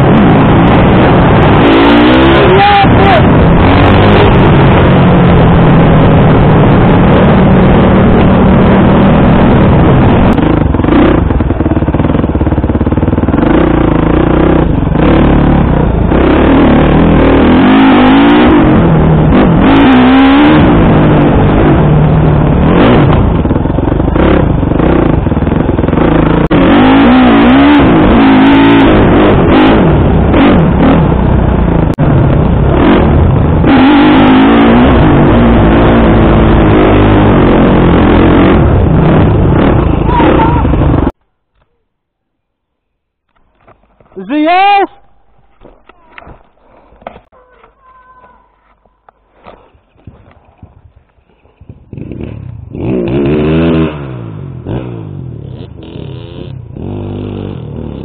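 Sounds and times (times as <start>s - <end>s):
small motorcycle engine revving: 0.0s - 41.2s, 49.4s - 58.0s.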